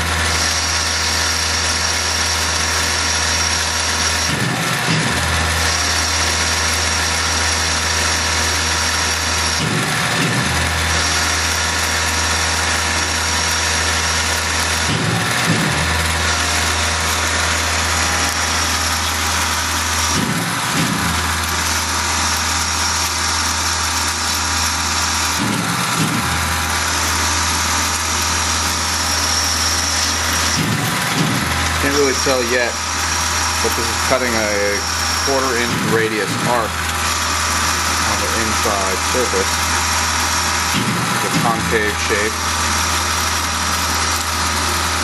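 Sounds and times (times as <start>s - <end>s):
mill spindle droning with whine: 0.0s - 45.0s.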